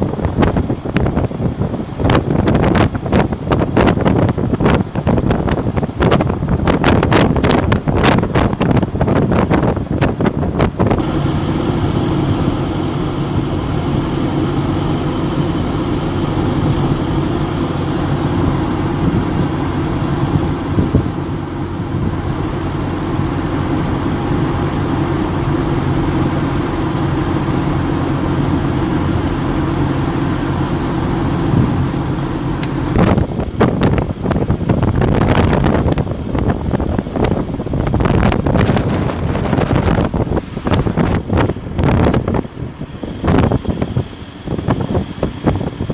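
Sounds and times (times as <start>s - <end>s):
road and wind noise: 0.0s - 45.9s
vehicle engine running: 0.0s - 45.9s
wind buffeting on microphone: 0.0s - 45.9s.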